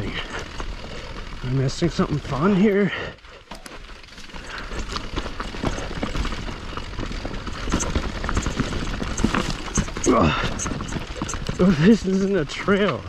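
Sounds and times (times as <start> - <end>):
bike rattling clicks and knocks: 0.0 - 13.0
bike tyres crunching over stones: 0.0 - 13.0.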